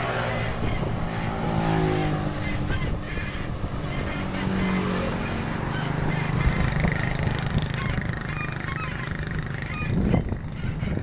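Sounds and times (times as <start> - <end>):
motorcycles passing by: 0.0 - 11.0.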